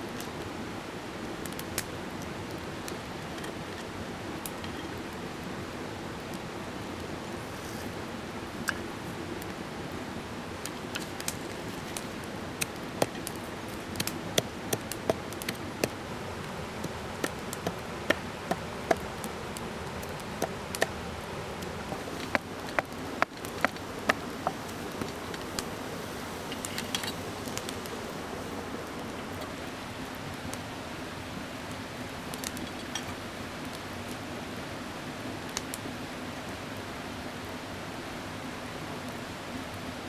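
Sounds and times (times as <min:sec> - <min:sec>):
campfire crackling and popping: 0:00.0 - 0:34.3, 0:35.4 - 0:35.8
mountain stream rushing: 0:00.0 - 0:40.0.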